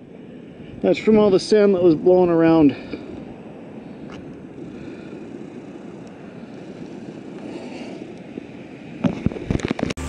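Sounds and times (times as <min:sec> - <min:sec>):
muffled wind and rain: 0:00.0 - 0:10.0.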